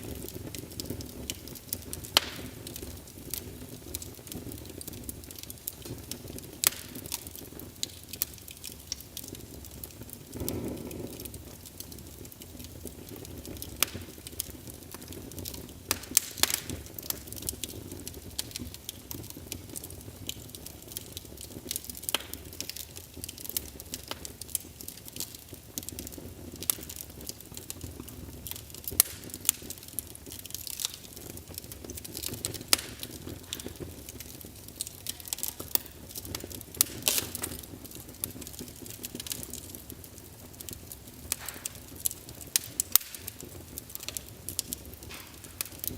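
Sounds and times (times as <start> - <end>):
low rush of flame: 0.0 - 45.9
wood fire crackling: 0.0 - 45.9.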